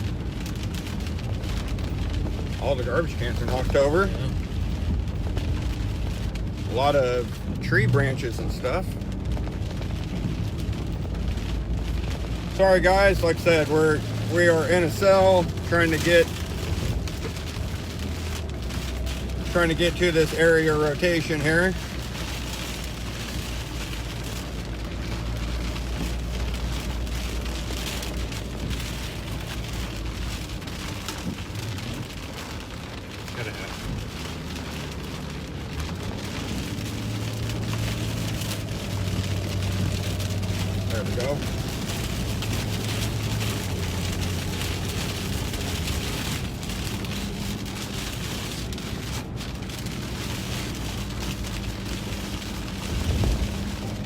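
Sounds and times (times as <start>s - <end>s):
car rumbling on road: 0.0s - 54.0s
rain on car roof: 0.0s - 54.0s.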